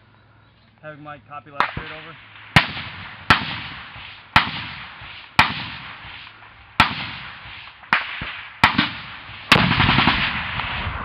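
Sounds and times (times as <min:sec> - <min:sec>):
echoing gunshots: 0:01.5 - 0:11.0.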